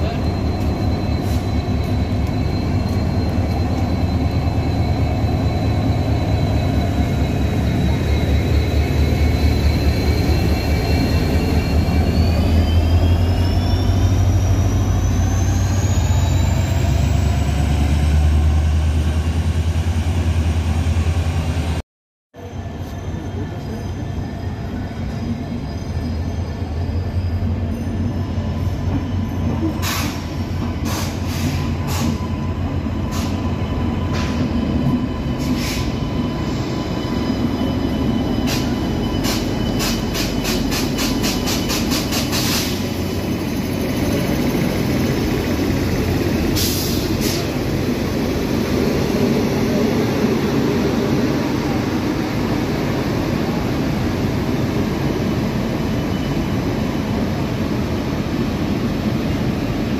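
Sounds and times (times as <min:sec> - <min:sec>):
train rumbling: 0:00.0 - 0:21.8, 0:22.4 - 0:59.9.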